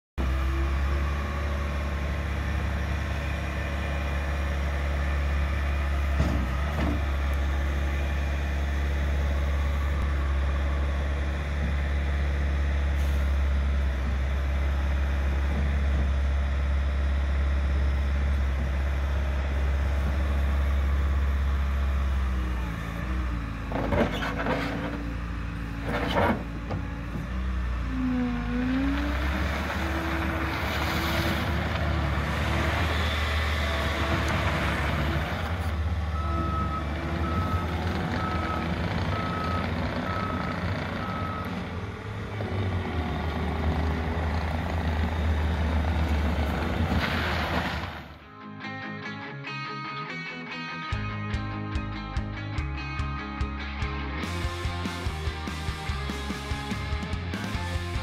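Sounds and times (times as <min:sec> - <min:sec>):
diesel engine running: 0:00.2 - 0:48.3, 0:53.4 - 0:58.0.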